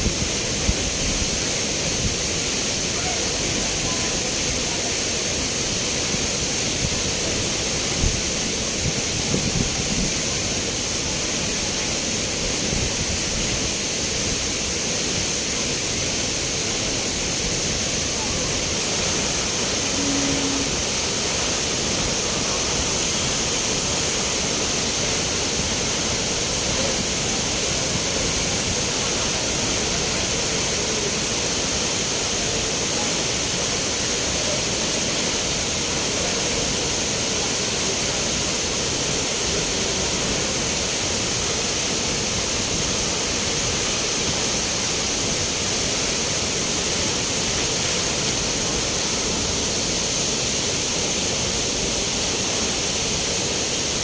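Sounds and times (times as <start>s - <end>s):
spring water flowing and splashing: 0.0s - 54.0s.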